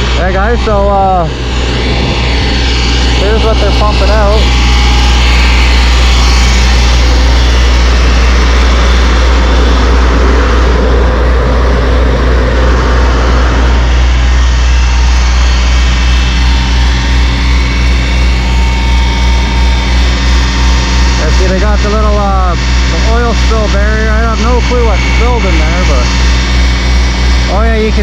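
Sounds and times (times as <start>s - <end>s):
truck engines and pumps droning: 0.0s - 28.0s.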